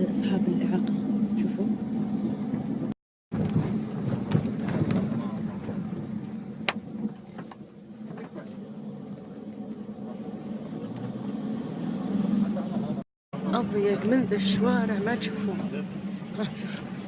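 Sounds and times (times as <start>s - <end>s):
car cabin engine and road hum: 0.0s - 17.0s.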